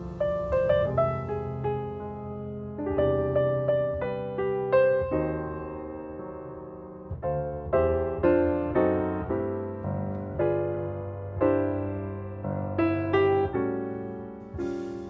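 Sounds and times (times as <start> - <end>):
slow solo piano chords: 0.0 - 15.0.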